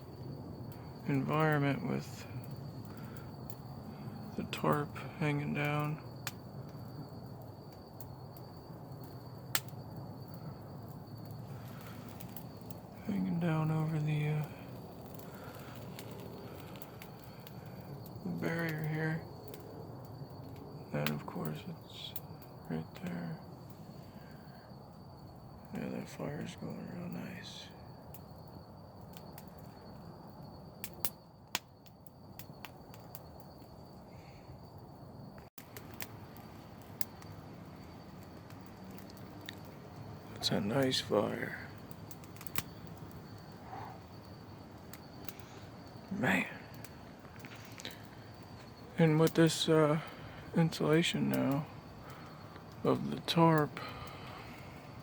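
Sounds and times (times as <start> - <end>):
fire crackling pops: 0.0 - 55.0
wood fire rushing: 0.0 - 55.0.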